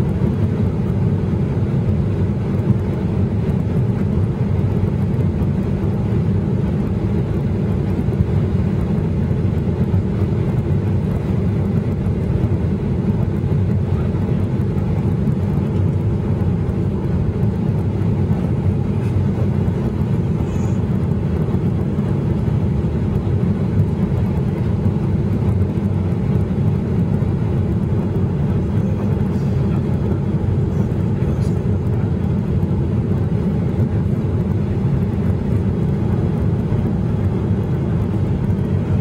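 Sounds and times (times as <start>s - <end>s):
airplane cabin roar: 0.0s - 39.0s.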